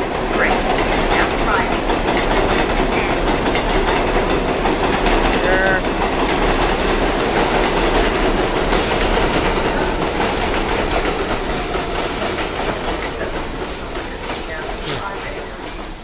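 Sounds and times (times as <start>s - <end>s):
subway train rumbling on track: 0.0s - 16.0s.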